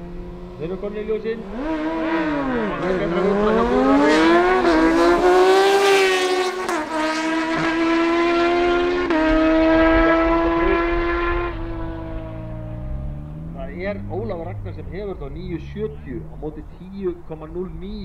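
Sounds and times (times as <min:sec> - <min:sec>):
motorcycles accelerating hard: 0:00.0 - 0:18.0.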